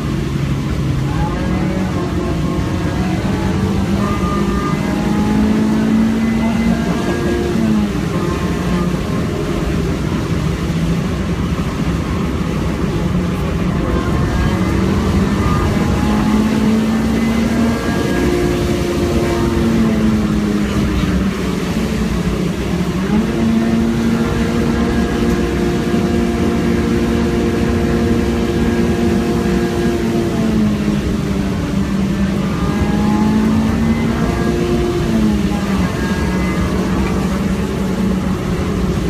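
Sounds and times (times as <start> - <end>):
car engine pulling hard: 0.0 - 39.0
tyre and road noise: 0.0 - 39.0.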